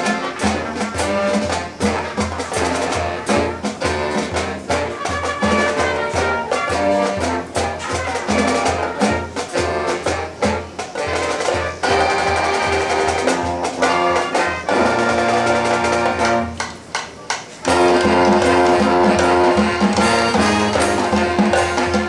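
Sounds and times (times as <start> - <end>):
brass playing: 0.0 - 16.8, 17.7 - 22.0
steady drum beat: 0.0 - 22.0.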